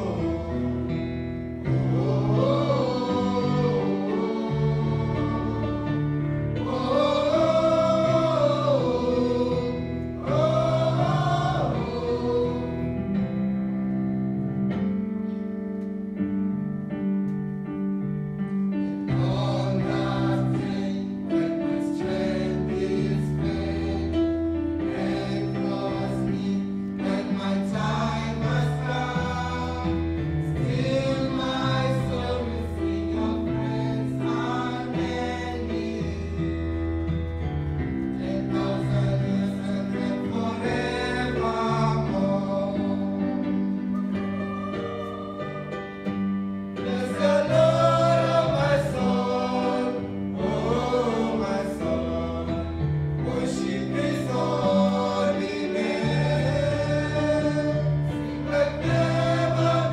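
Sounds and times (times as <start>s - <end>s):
choir singing gospel song: 0.0s - 13.9s, 18.8s - 59.9s
keyboard accompaniment: 0.0s - 59.9s.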